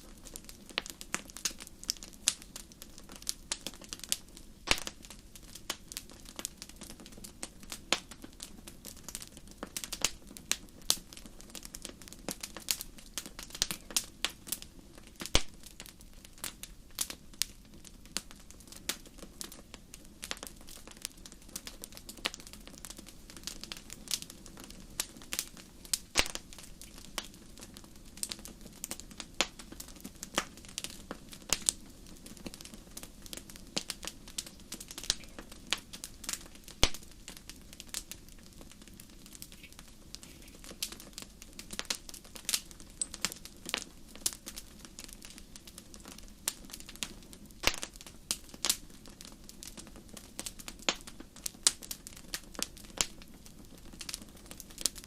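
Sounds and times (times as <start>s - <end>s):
soft rush of flame: 0.0s - 55.0s
wood fire crackling: 0.0s - 55.0s.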